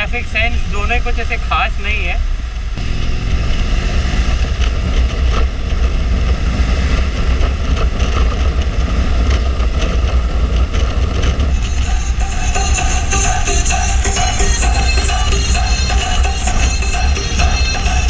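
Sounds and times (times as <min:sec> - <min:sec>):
motorcycle engine cruising: 0:00.0 - 0:18.0
wind rumble on microphone: 0:00.0 - 0:18.0.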